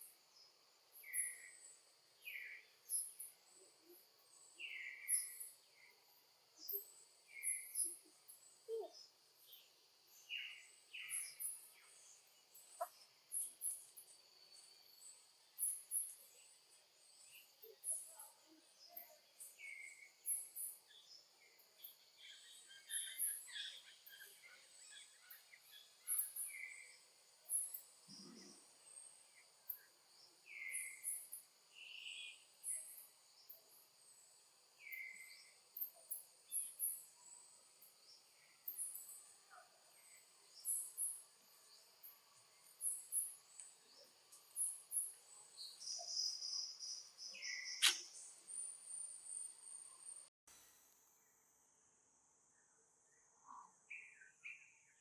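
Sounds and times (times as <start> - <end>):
insect drone: 0.0 - 53.2.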